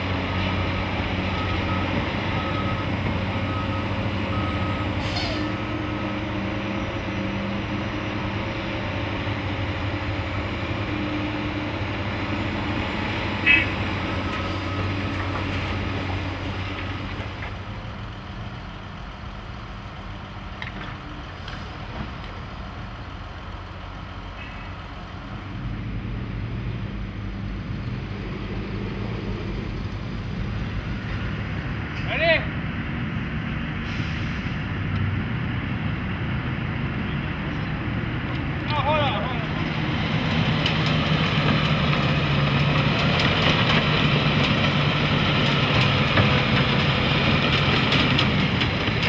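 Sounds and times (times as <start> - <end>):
bulldozer diesel engine running: 0.0 - 31.8, 34.6 - 49.0.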